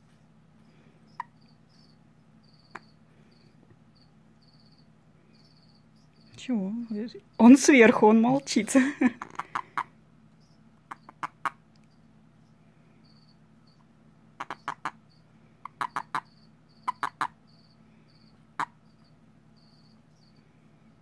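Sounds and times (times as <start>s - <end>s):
faint cricket chirps: 0.0s - 21.0s
toad chirping: 1.1s - 8.0s, 9.1s - 13.8s, 14.4s - 20.4s.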